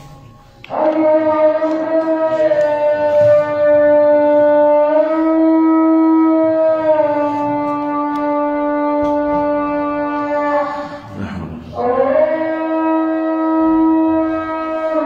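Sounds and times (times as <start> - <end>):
call to prayer over loudspeakers: 0.0 - 15.0.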